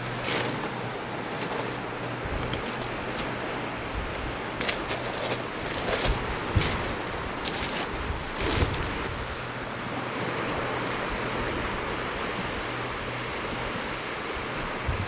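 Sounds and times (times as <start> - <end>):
sea waves washing onto beach: 0.0 - 15.0
wind on microphone: 2.0 - 9.6, 10.2 - 15.0.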